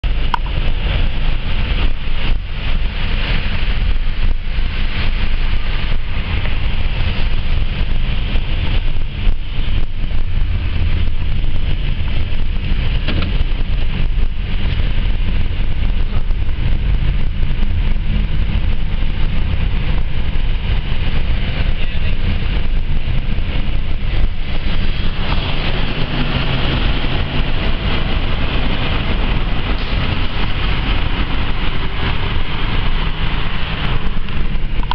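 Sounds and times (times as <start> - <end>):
highway traffic rumble: 0.0 - 34.9
wind on microphone: 0.0 - 34.9.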